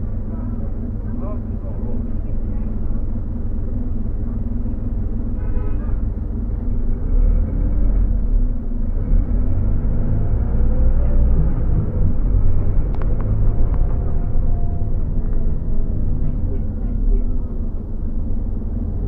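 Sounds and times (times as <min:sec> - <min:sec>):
bus engine rumble: 0:00.0 - 0:19.0.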